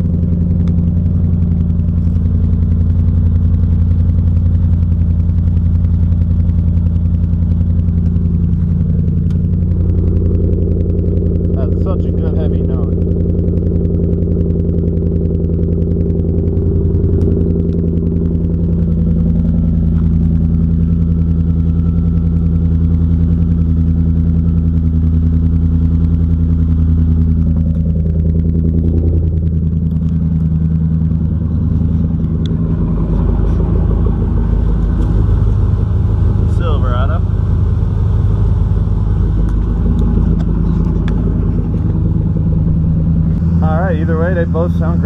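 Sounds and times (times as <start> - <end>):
engine idling: 0.0 - 45.0
second engine idling: 0.0 - 45.0.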